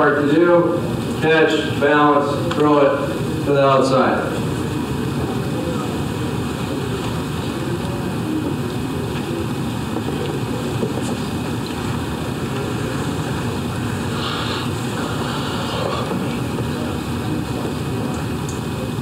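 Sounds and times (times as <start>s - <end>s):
low rumbling room noise: 0.0s - 19.0s.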